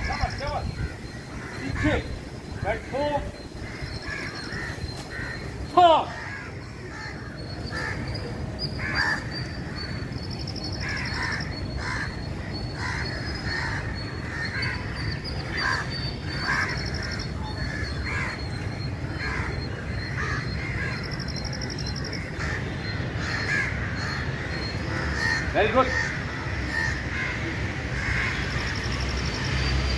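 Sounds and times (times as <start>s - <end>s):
crows cawing: 0.0s - 29.0s.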